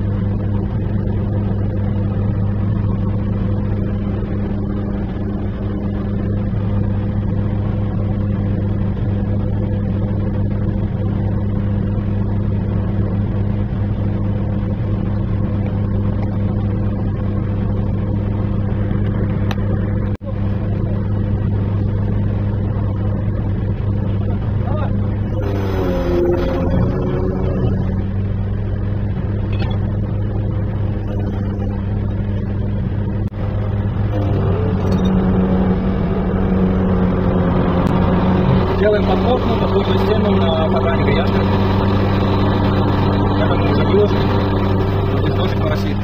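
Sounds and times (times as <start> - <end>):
crane engine low hum: 0.0 - 46.0.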